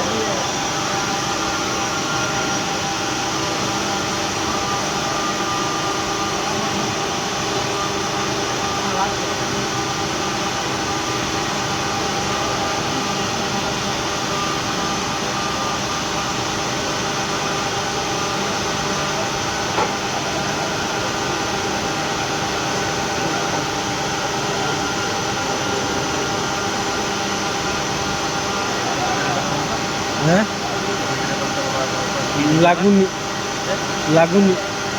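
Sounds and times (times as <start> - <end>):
industrial furnace drone: 0.0 - 34.9.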